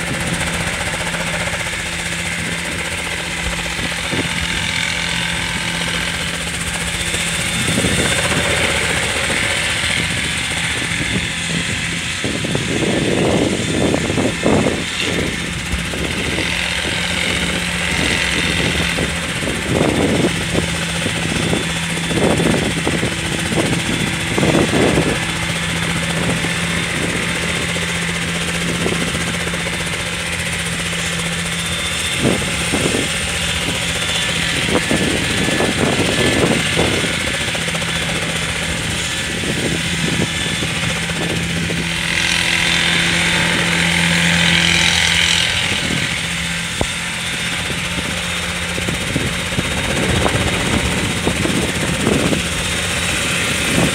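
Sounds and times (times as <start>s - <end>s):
helicopter rotor humming: 0.0s - 53.9s
wind buffeting microphone: 0.0s - 53.9s.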